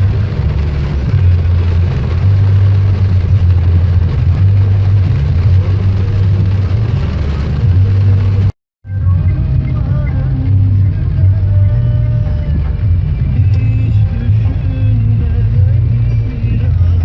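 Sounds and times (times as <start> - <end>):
vehicle engine and road drone: 0.0 - 17.0.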